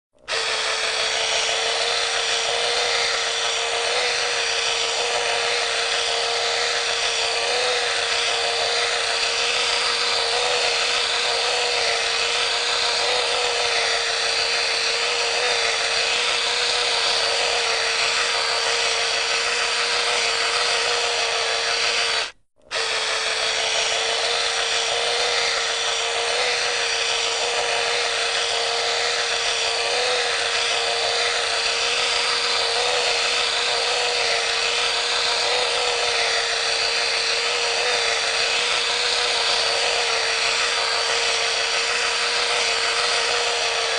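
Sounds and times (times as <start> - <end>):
hard disk drive whirring: 0.2 - 43.9.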